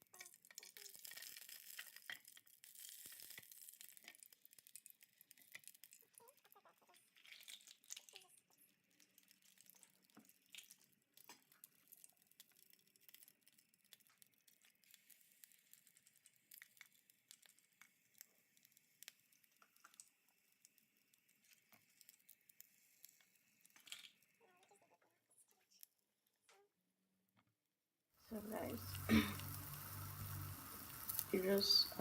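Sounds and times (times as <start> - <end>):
batter frying in a pan: 0.0 - 25.0, 28.3 - 32.0.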